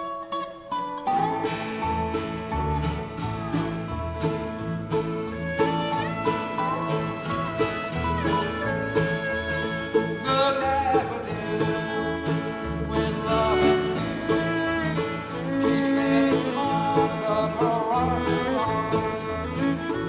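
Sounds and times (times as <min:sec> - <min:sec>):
live band playing country song: 0:00.0 - 0:20.0.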